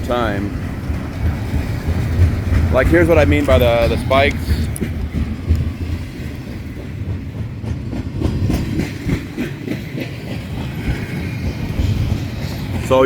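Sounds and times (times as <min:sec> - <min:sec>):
train rumbling past: 0:00.0 - 0:13.0
train wheels knocking on track: 0:00.0 - 0:13.0.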